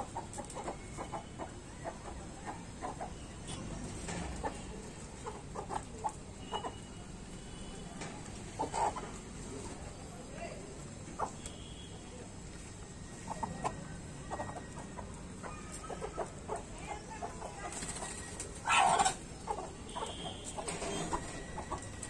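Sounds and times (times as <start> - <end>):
hens clucking: 0.0 - 7.4, 8.2 - 9.9, 10.9 - 11.5, 12.6 - 22.0.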